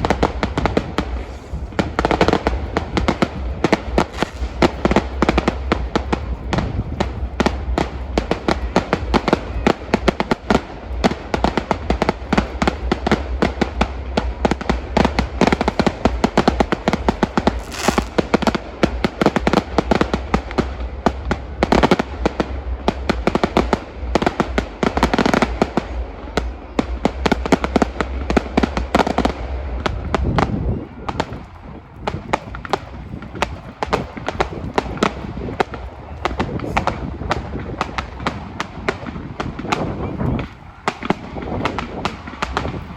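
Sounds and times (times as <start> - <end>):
fireworks bangs and crackling: 0.0 - 42.9
low rumble: 0.0 - 42.9.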